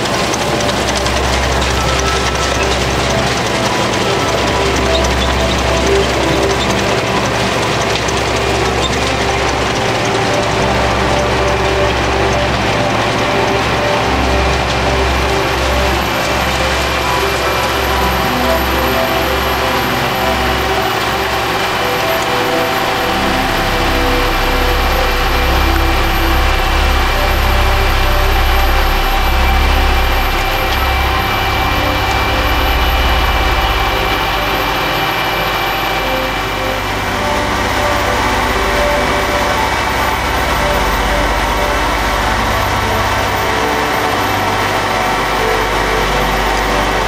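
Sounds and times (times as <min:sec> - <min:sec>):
diesel paving machinery rumbling: 0:00.0 - 0:47.0.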